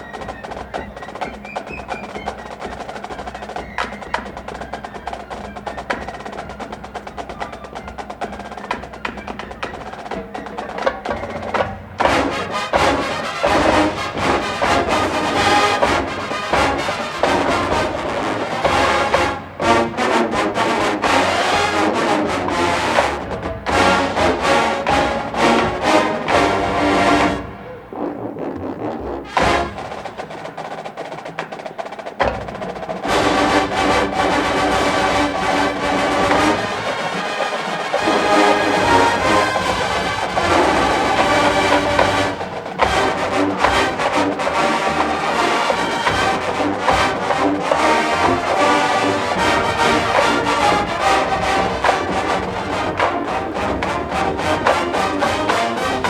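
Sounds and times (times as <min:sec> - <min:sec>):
marching band drums and percussion: 0:00.0 - 0:56.0
marching band with brass: 0:00.0 - 0:56.0.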